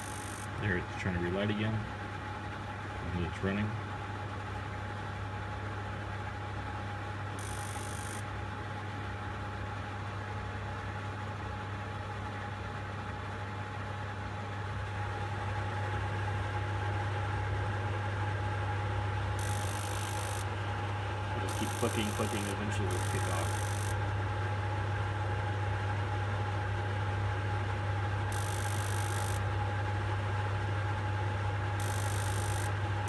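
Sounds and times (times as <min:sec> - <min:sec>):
gas heater humming: 0:00.0 - 0:09.9, 0:14.3 - 0:33.0.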